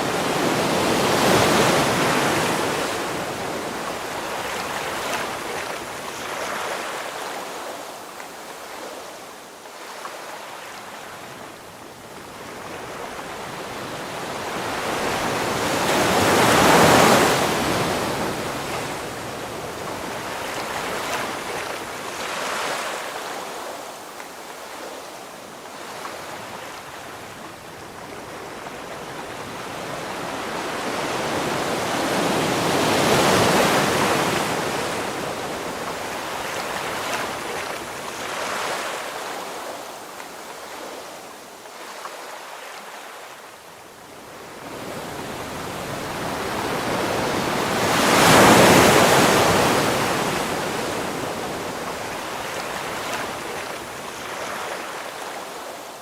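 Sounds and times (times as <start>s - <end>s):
ocean waves crashing on shore: 0.0s - 56.0s.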